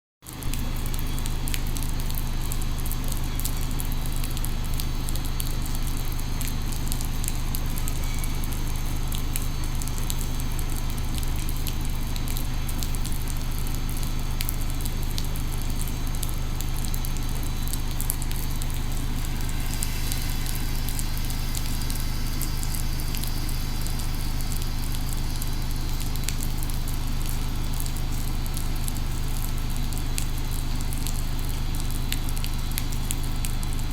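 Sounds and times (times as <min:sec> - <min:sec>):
light crackling ticks: 0:00.3 - 0:33.9
electric locomotive humming: 0:02.4 - 0:33.9
high hiss: 0:03.0 - 0:33.9.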